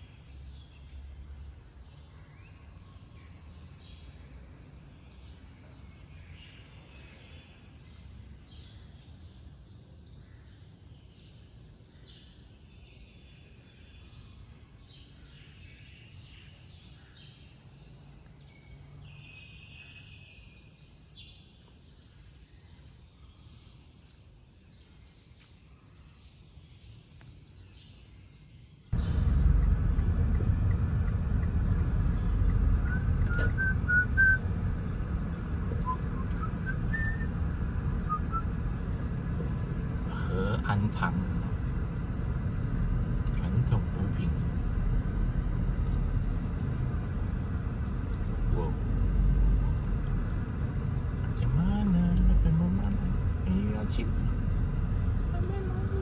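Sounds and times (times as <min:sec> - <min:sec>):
car driving on road: 0:00.0 - 0:22.7, 0:28.9 - 0:56.0
small birds chirping: 0:00.0 - 0:56.0.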